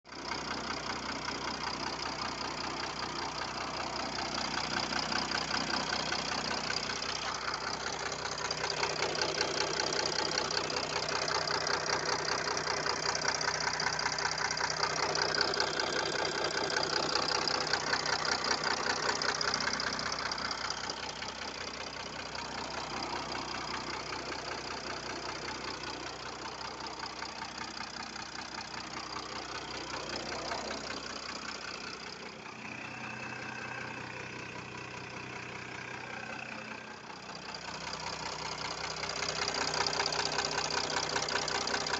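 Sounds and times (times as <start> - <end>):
diesel engine knocking: 0.1 - 41.9.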